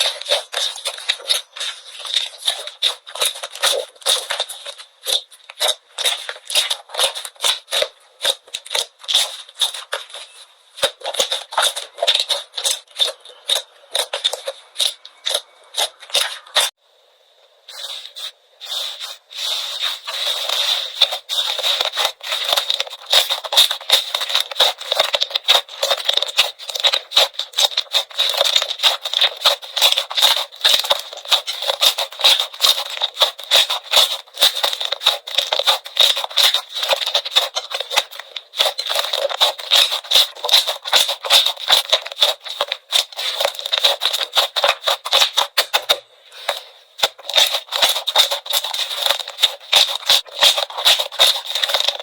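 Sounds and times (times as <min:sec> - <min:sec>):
slime crackling and popping: 0:00.0 - 0:16.8, 0:19.7 - 0:46.0, 0:47.0 - 0:52.0.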